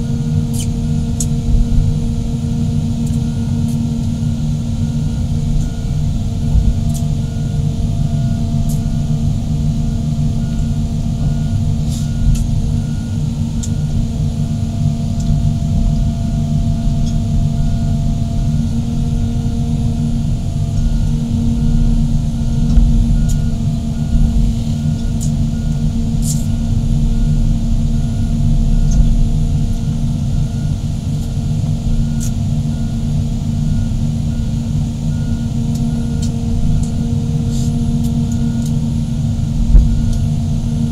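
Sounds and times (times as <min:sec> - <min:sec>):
excavator diesel engines rumbling: 0:00.0 - 0:40.9.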